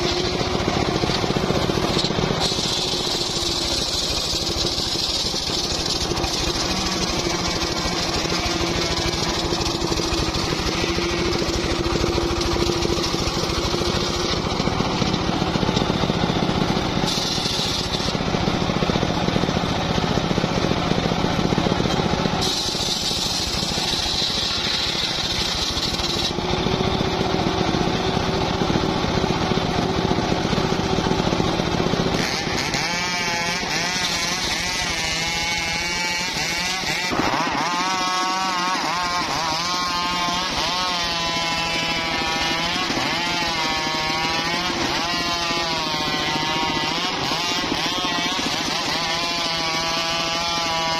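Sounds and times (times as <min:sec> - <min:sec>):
engine running: 0:00.0 - 0:50.9
saw blade cutting wood: 0:00.0 - 0:50.9.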